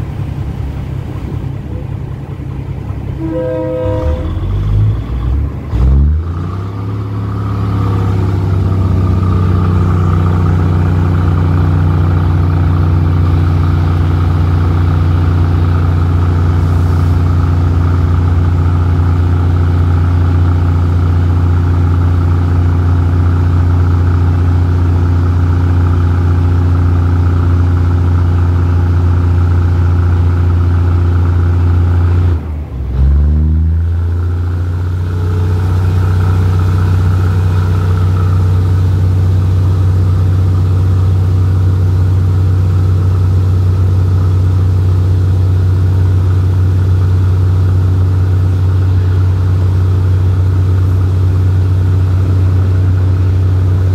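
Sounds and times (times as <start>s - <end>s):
diesel train engine droning: 0.0s - 53.9s.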